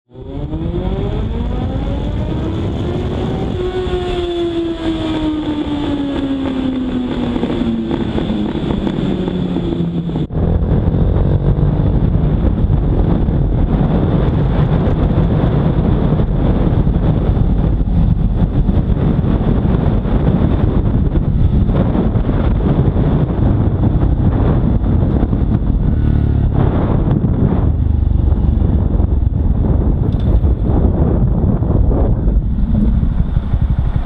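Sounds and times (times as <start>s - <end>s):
motorcycle engine revving: 0.1s - 34.0s
motorcycle engine running while ridden: 0.1s - 34.0s
wind noise on microphone: 0.1s - 34.0s.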